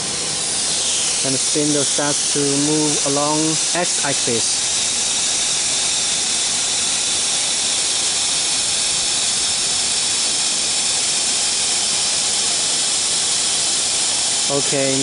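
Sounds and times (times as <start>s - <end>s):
steady machine hiss: 0.0s - 15.0s.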